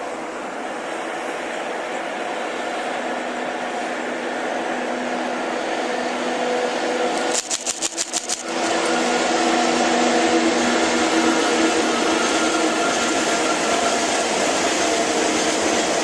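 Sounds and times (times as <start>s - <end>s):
freight train rumbling past: 0.0s - 16.0s
humming locomotive motors: 0.0s - 16.0s.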